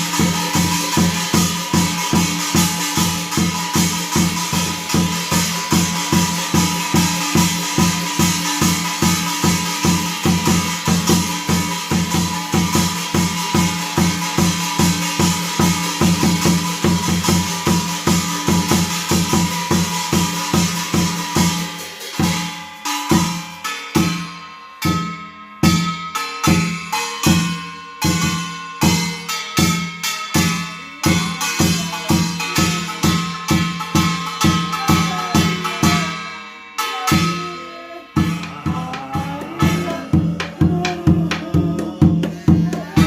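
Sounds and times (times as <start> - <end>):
barrel drum beating fast: 0.0 - 24.2, 24.9 - 36.3, 38.1 - 43.0
jingling shimmer: 0.0 - 43.0.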